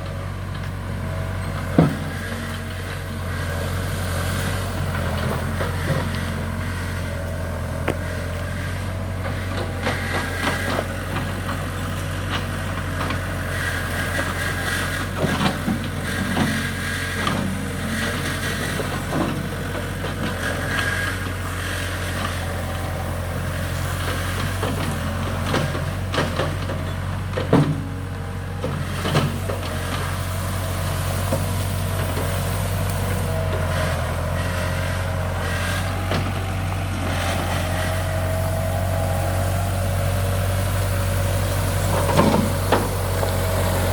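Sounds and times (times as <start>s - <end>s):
diesel engine running: 0.0s - 43.9s
engine whine: 0.0s - 43.9s
trees and brush cracking: 2.8s - 43.9s.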